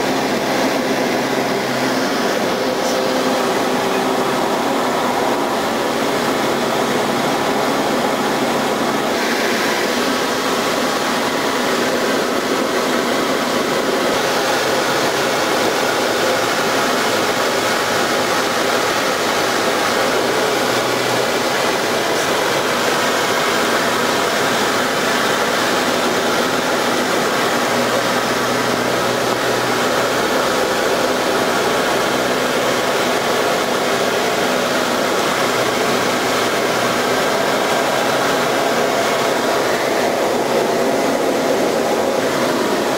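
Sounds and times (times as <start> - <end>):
aircraft engine and propeller drone: 0.0 - 42.9.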